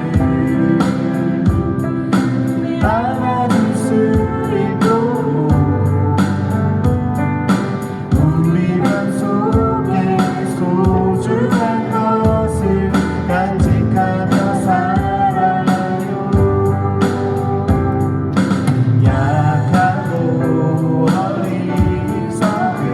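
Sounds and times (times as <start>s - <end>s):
guitar: 0.0s - 22.9s
person singing: 0.0s - 22.9s
steady drum beat: 0.0s - 22.9s.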